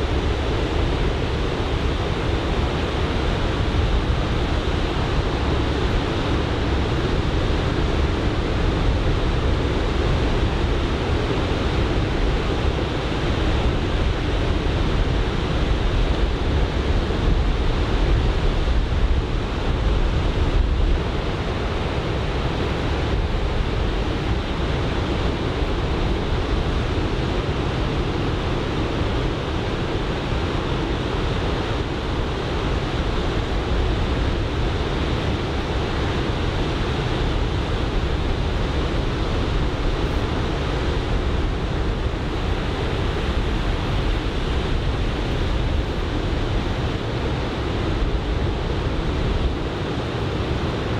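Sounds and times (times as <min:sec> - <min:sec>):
wind rumbling on microphone: 0:00.0 - 0:50.9.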